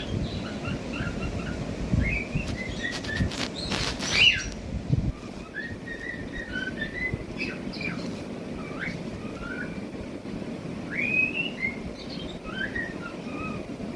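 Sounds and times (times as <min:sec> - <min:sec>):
cockatiels chirping and whistling: 0:00.0 - 0:04.6, 0:05.2 - 0:09.8, 0:10.9 - 0:13.7
noisy rustle: 0:00.0 - 0:13.9.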